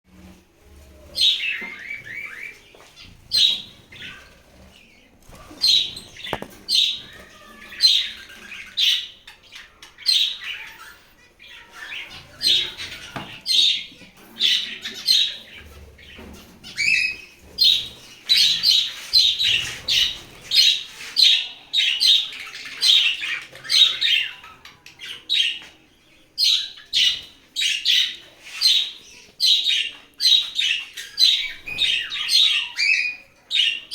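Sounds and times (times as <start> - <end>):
budgerigars chirping: 1.2 - 33.9.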